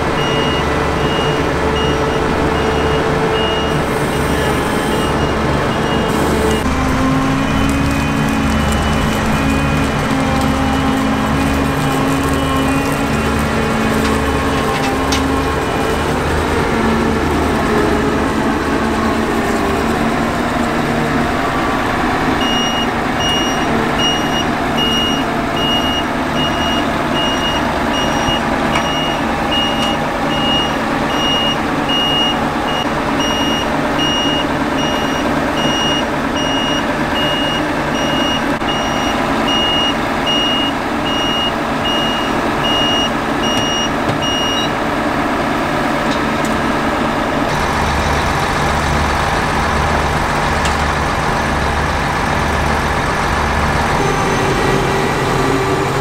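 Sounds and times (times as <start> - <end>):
combine harvester engine running: 0.0 - 56.0
reversing alarm beeping: 0.1 - 19.4, 21.2 - 44.8, 53.9 - 56.0.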